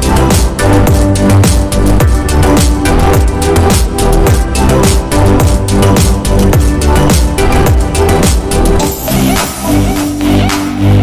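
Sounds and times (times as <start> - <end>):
deep sliding bass notes: 0.0 - 11.0
electronic dance music: 0.0 - 11.0.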